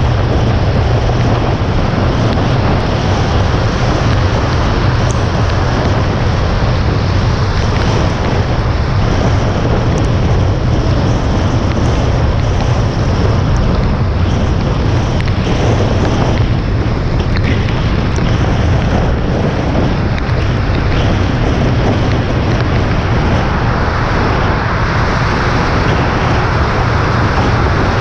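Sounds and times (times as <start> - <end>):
low rumble: 0.0 - 28.0
tyres on wet road: 0.0 - 28.0
wind rushing: 0.0 - 28.0.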